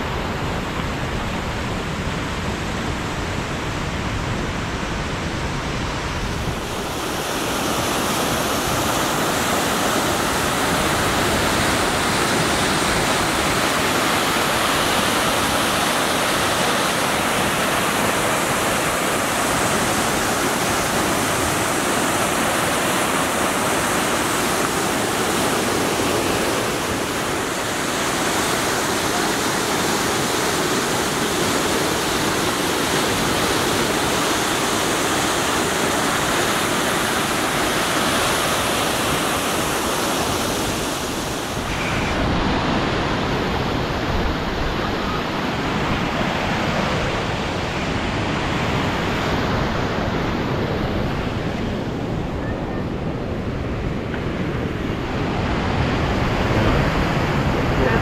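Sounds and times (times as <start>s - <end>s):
whitewater river roaring: 0.0s - 58.0s.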